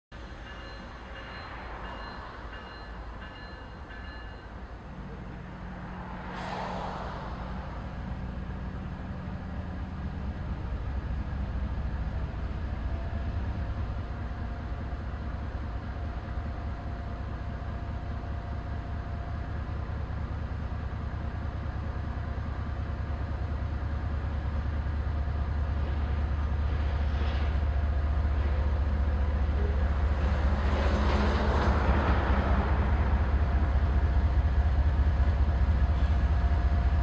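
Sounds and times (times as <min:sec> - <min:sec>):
locomotive rumbling: 0:00.1 - 0:37.0.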